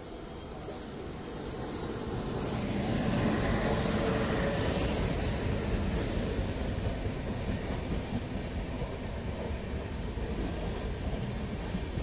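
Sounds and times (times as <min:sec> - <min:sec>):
passenger train running past: 0:00.0 - 0:12.0.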